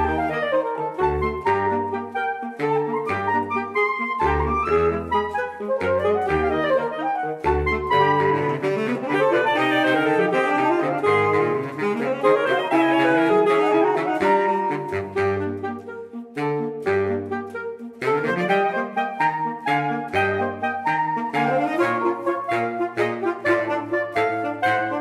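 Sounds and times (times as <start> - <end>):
low baritone saxophone notes: 0.0 - 25.0
saxophone quartet playing: 0.0 - 25.0.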